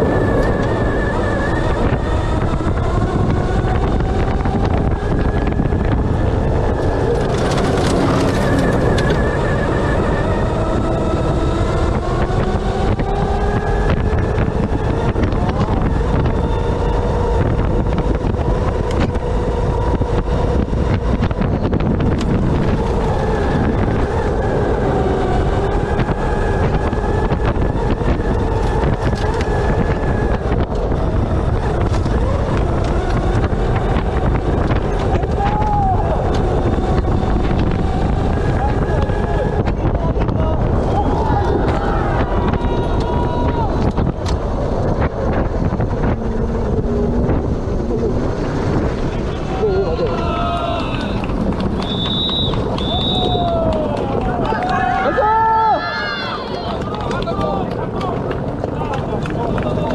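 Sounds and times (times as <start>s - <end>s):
electric buggy motor whine: 0.0s - 59.9s
low rumble: 0.0s - 59.9s
wind noise on microphone: 0.0s - 59.9s.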